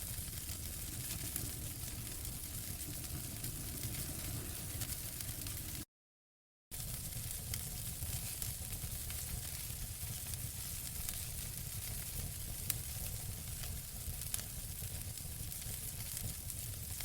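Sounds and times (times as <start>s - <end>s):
campfire crackling: 0.0s - 5.8s, 6.8s - 17.0s.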